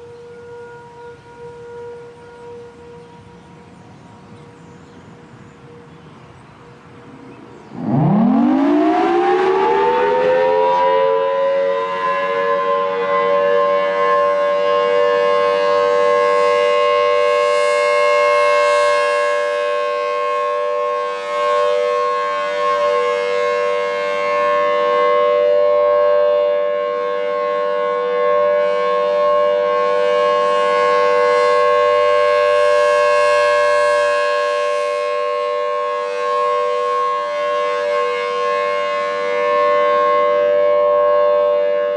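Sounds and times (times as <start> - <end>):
warning siren wailing: 0.0 - 41.9.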